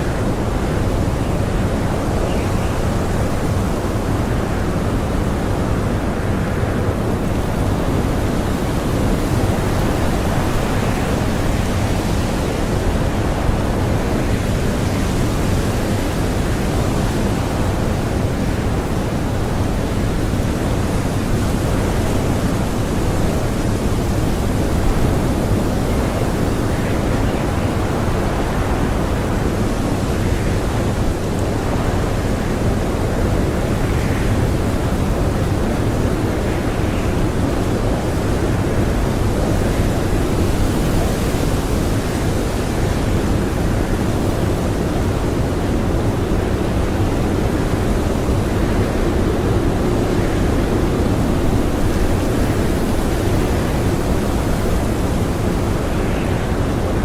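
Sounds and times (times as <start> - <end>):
strong blizzard wind: 0.0 - 57.0.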